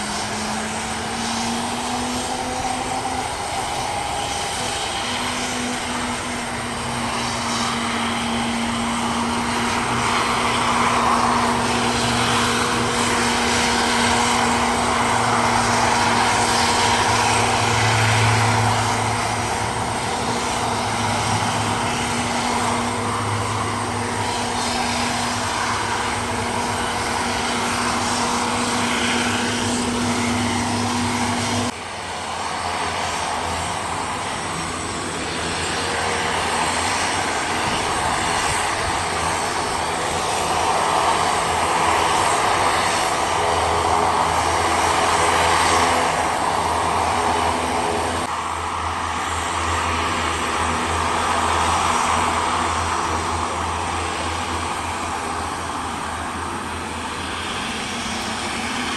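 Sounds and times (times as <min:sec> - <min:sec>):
turboprop engines droning: 0:00.0 - 0:58.9.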